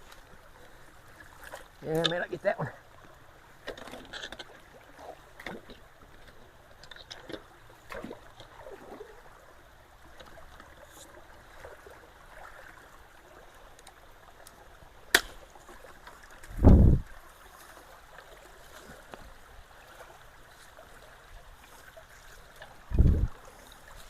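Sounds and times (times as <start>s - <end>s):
small splashes and knocks: 0.0s - 9.3s, 10.0s - 24.0s
creek water trickling: 0.0s - 24.0s.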